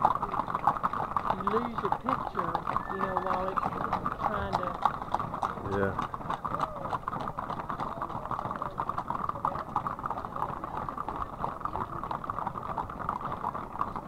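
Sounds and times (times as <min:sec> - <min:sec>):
horse hooves on asphalt: 0:00.0 - 0:14.0.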